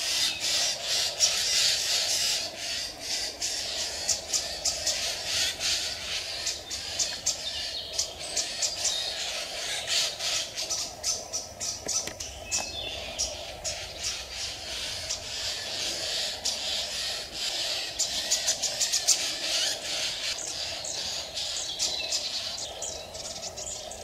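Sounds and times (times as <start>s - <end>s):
birds chirping: 0.0s - 24.0s
steady background hiss: 0.0s - 24.0s.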